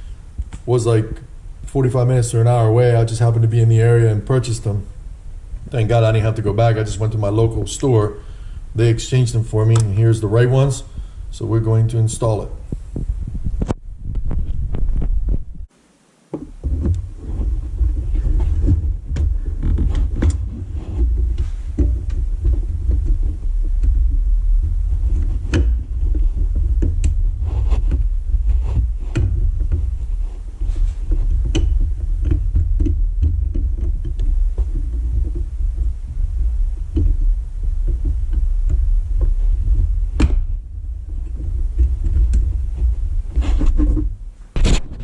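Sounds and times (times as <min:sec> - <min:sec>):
low rumble: 0:00.0 - 0:15.7, 0:17.1 - 0:45.0.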